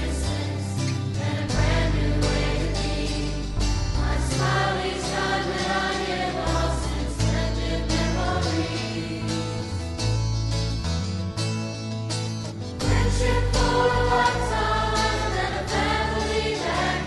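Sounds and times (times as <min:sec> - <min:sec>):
slow song with choir-like voices: 0:00.0 - 0:10.5, 0:12.5 - 0:17.0.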